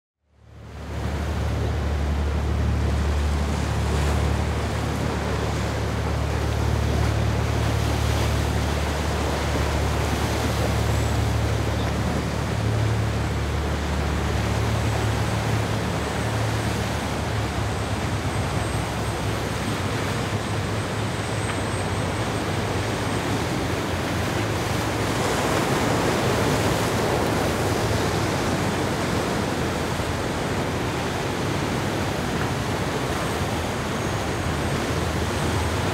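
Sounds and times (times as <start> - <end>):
diesel engines humming: 0.6 - 35.9
spray and breaking waves: 0.6 - 35.9.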